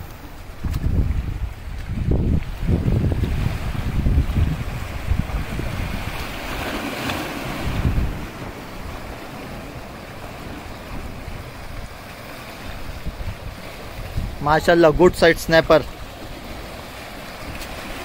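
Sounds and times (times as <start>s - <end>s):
waves washing against boulders: 0.0s - 18.0s
wind buffeting microphone: 0.0s - 18.0s
surf hiss: 2.6s - 18.0s.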